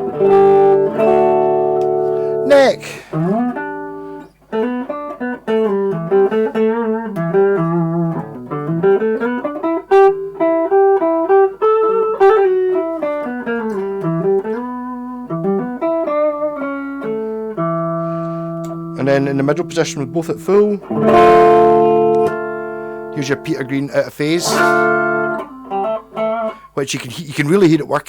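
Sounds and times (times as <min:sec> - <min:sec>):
electric guitar lead melody: 0:00.0 - 0:26.7.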